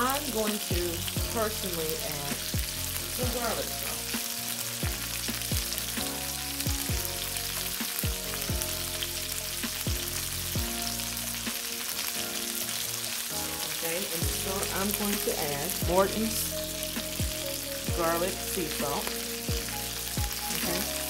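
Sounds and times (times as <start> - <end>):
green beans sizzling in skillet: 0.0 - 21.0.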